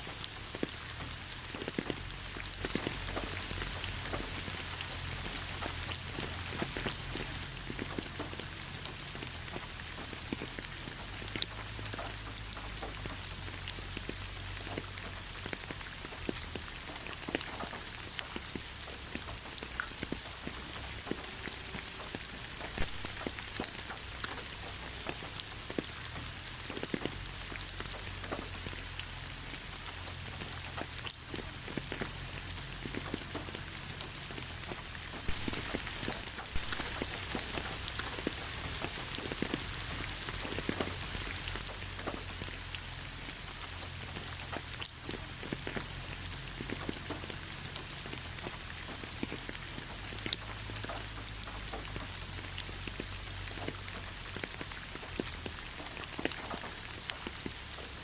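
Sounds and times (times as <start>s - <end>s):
raindrops tapping on surfaces: 0.0s - 58.0s
steady rain hiss: 0.0s - 58.0s.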